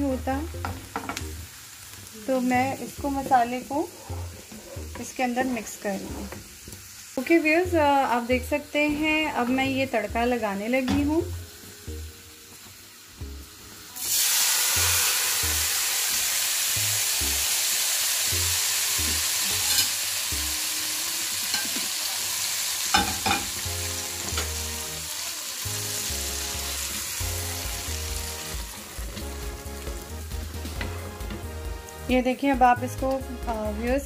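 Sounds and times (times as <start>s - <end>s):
hot ghee sizzling in a pot: 0.0s - 34.0s.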